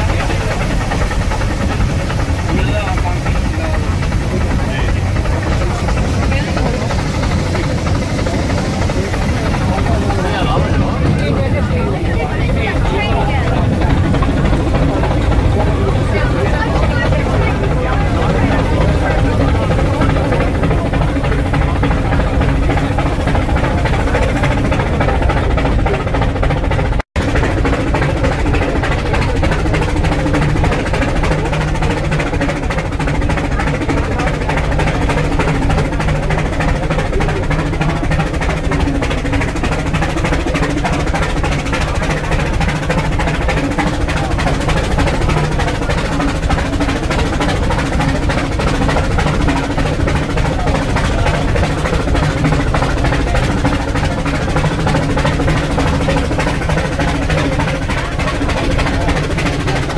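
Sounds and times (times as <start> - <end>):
steam locomotive exhaust puffs: 0.0 - 59.9.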